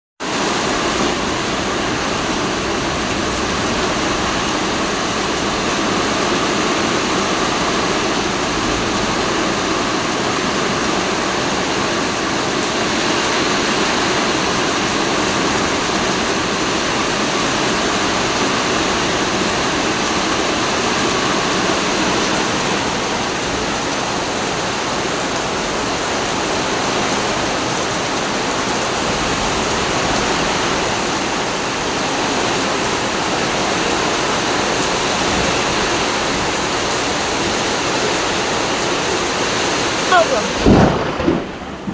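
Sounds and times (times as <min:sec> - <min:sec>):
heavy rain: 0:00.2 - 0:41.9
storm wind: 0:00.4 - 0:41.9.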